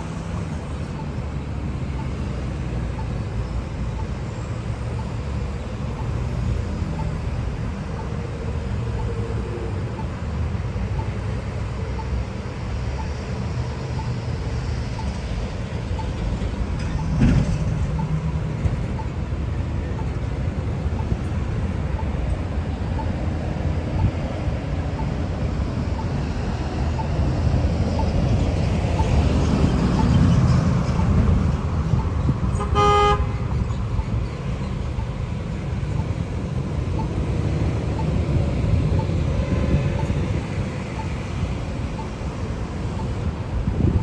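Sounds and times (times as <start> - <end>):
road traffic rumbling: 0.0 - 44.0.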